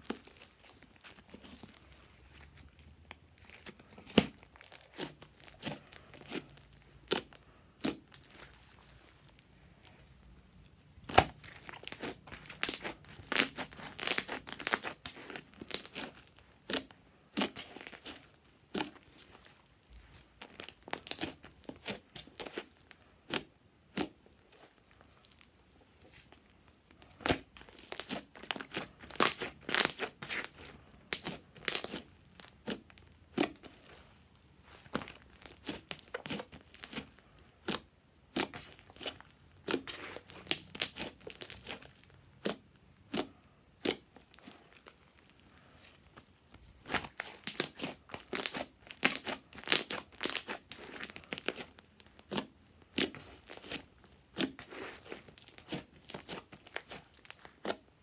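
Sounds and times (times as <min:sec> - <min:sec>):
slime crackling and popping: 0:00.0 - 0:09.6, 0:11.0 - 0:25.5, 0:26.4 - 0:45.3, 0:46.5 - 0:58.0.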